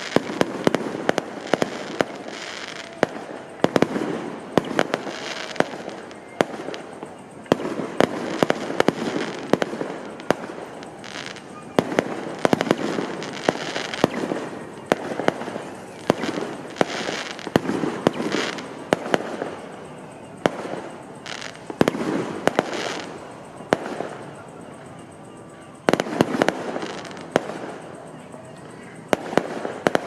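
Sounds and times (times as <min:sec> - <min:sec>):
fireworks bangs: 0:00.0 - 0:25.1, 0:25.7 - 0:28.2, 0:29.0 - 0:30.0
fireworks crackling: 0:00.0 - 0:28.2, 0:28.9 - 0:30.0.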